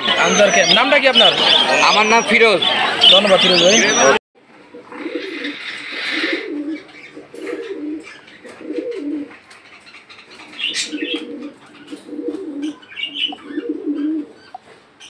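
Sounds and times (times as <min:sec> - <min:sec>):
small birds chirping: 0:00.0 - 0:04.2, 0:05.0 - 0:15.0
pigeons cooing: 0:00.0 - 0:15.0.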